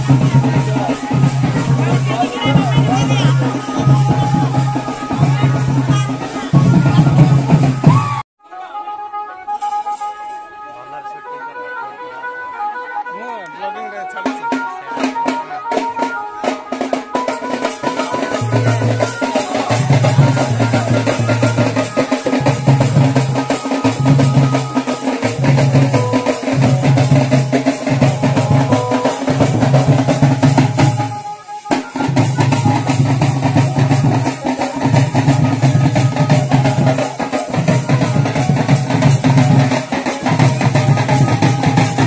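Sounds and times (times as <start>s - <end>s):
barrel drums beating dance rhythm: 0.0s - 8.2s, 14.0s - 42.0s.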